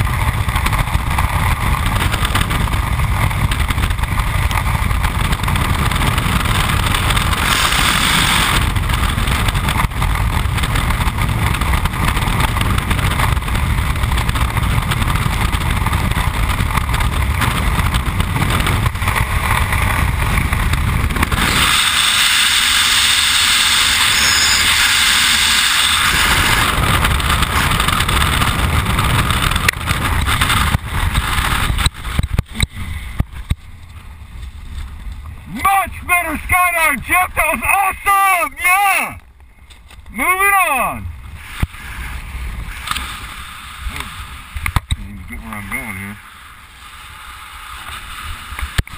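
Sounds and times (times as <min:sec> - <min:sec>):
wind rushing over microphone: 0:00.0 - 0:48.9.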